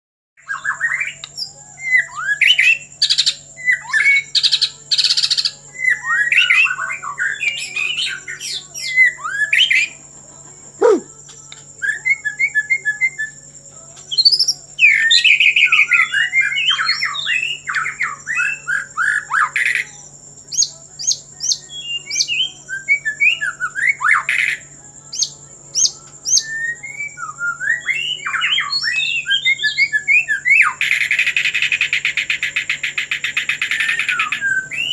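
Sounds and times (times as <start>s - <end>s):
bird singing whistled song: 0.4s - 10.0s, 10.8s - 34.9s.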